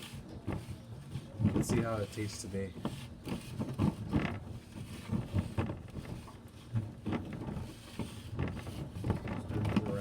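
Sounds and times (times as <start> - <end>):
knocks and scrapes: 0.0 - 10.0.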